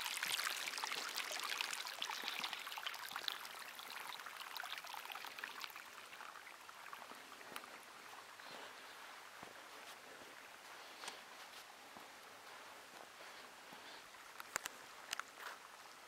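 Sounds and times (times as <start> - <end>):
water trickling down rock channel: 0.0 - 16.0.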